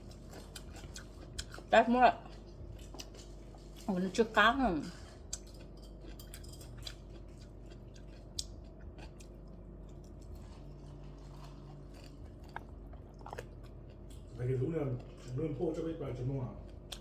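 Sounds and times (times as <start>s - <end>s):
person chewing food: 0.0s - 3.9s, 5.0s - 15.4s, 16.6s - 17.0s.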